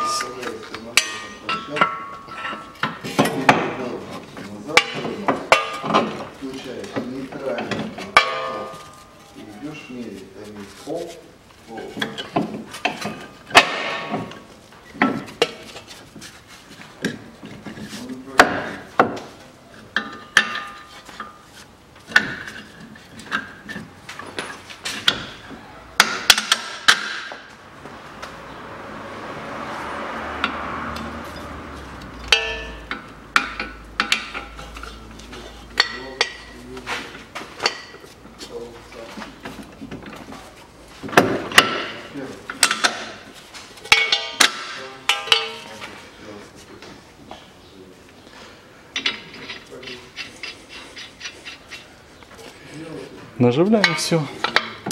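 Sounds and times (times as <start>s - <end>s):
metal tools clanking: 0.0s - 10.0s, 11.7s - 16.0s, 17.0s - 27.5s, 30.4s - 46.3s, 48.4s - 54.9s.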